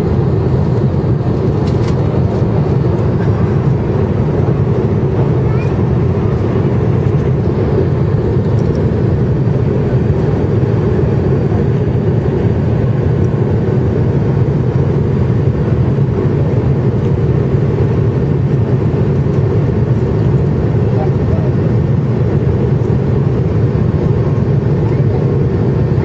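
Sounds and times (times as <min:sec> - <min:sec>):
jet cabin engine drone: 0:00.0 - 0:26.0.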